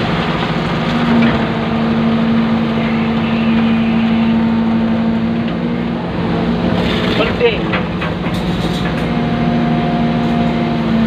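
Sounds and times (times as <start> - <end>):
excavator diesel engine and hydraulics: 0.0 - 11.0.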